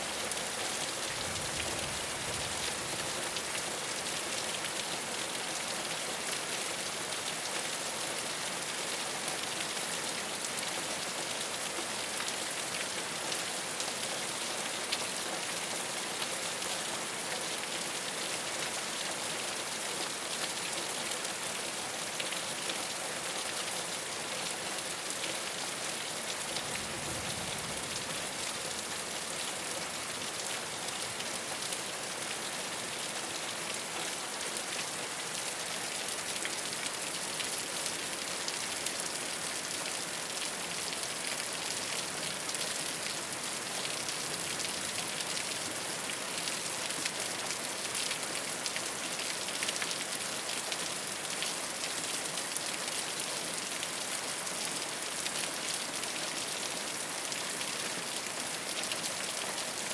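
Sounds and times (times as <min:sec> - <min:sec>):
rain on a rooftop: 0:00.0 - 0:59.9.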